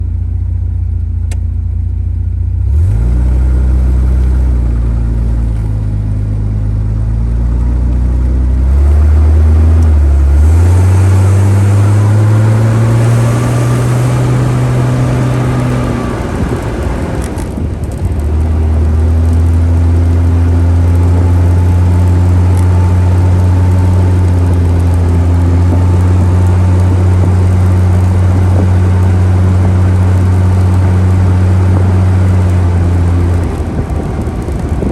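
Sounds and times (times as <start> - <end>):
car engine driving: 0.0 - 34.9.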